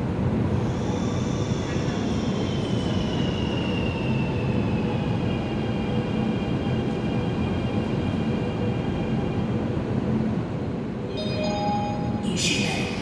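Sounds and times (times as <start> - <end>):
high-speed train rumble: 0.0 - 13.0.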